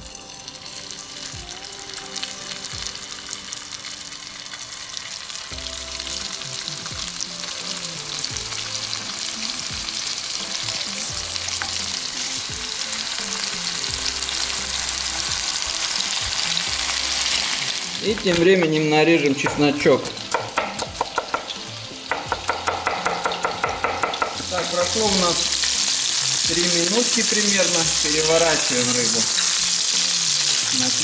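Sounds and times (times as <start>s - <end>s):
faint background music: 0.0s - 31.0s
fish sizzling in a pan: 0.0s - 31.0s.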